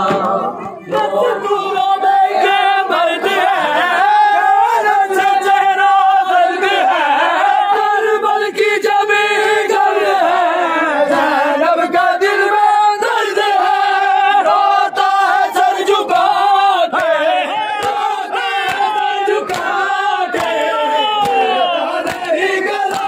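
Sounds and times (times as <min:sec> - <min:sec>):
crowd of men chanting: 0:00.0 - 0:23.0.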